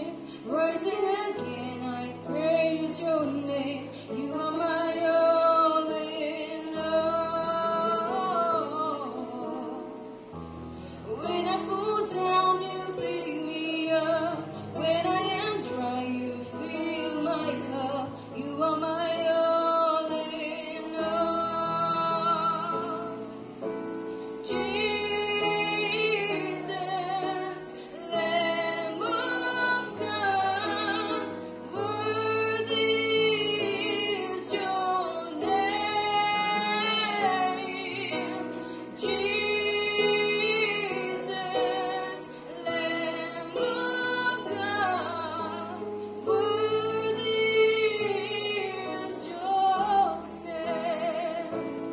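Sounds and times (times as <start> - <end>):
woman singing worship song: 0.0 - 51.9.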